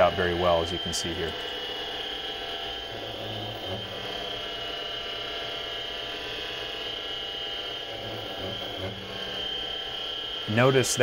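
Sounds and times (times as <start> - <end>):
lathe cutting steel with ringing: 0.0 - 11.0.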